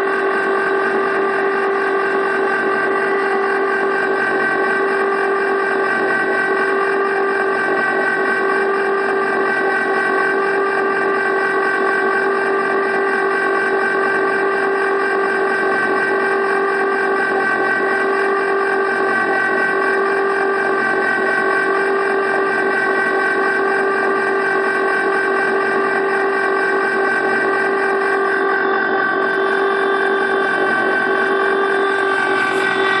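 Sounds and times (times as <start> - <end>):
ice cream maker motor whining: 0.0 - 33.0.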